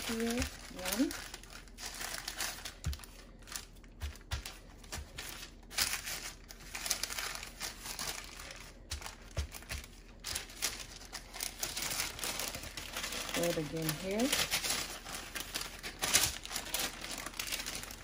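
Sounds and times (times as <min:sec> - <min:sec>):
parchment paper crinkling: 0:00.0 - 0:18.0.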